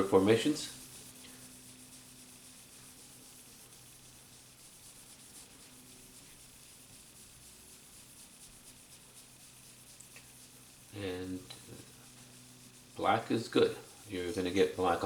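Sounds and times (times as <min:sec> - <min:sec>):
rag rubbing on metal: 0:00.0 - 0:15.0.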